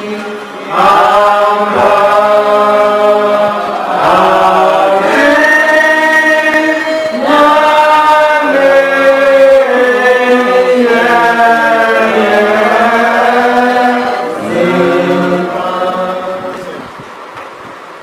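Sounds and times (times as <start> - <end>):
man singing into a microphone: 0.0 - 16.9.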